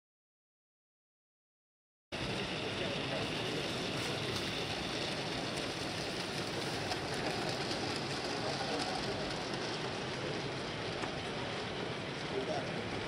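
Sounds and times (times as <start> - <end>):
crowd murmur in a hall: 2.3 - 13.0.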